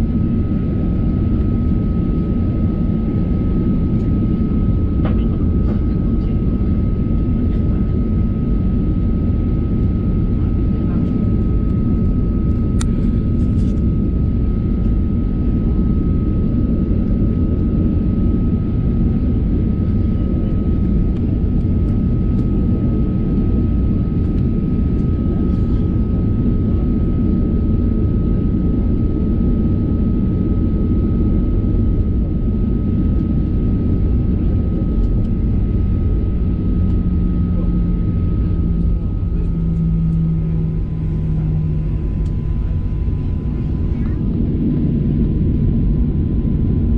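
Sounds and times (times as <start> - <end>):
aircraft engine and cabin noise: 0.0 - 46.9.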